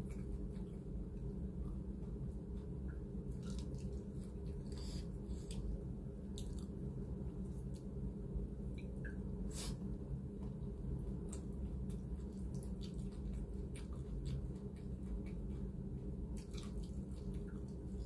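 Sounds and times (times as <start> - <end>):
chewing with wet smacks: 0.0 - 8.0, 10.4 - 18.0
steady low hum: 0.0 - 18.0.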